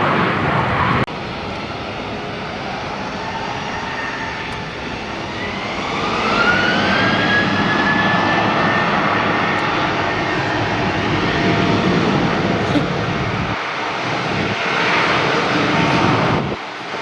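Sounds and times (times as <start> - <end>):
jet engine rush and whine: 0.0 - 17.0.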